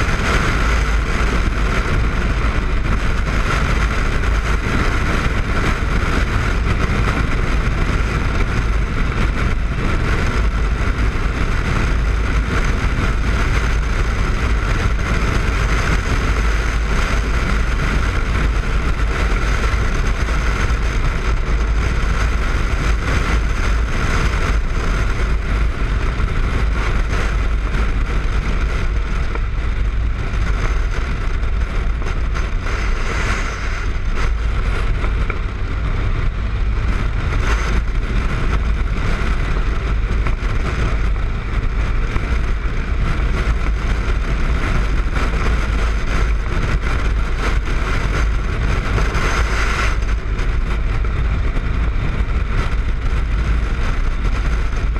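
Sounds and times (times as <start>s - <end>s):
motorcycle engine: 0.0s - 54.9s
wind buffeting microphone: 0.0s - 54.9s.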